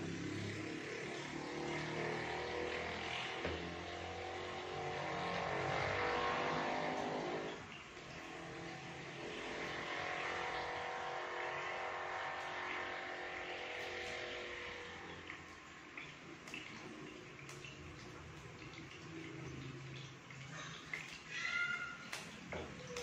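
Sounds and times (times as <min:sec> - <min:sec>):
engine drone: 0:00.0 - 0:19.8.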